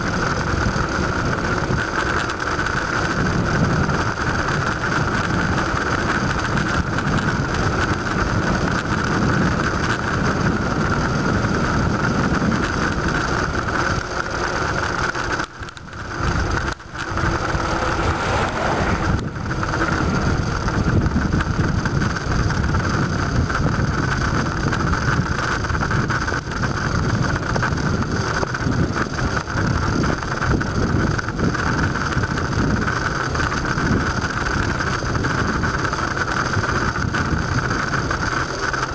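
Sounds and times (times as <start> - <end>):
road rumble: 0.0 - 38.9
wind rush on microphone: 0.0 - 38.9.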